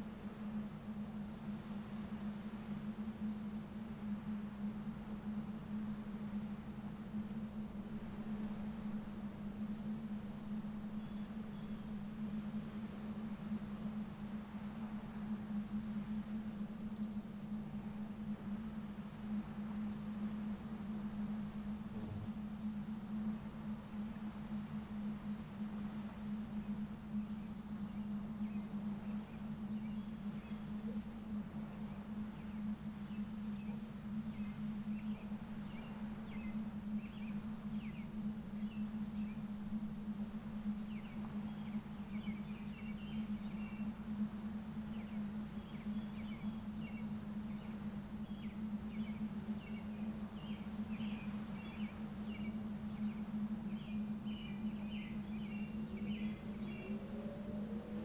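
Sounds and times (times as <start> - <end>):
soft background rush: 0.0 - 58.0
steady low hum: 0.0 - 58.0.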